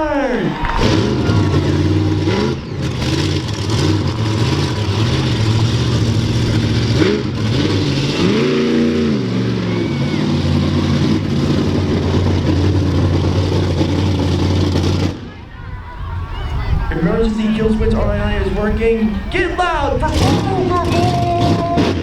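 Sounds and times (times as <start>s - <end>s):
truck engine idling and revving: 0.0s - 22.0s.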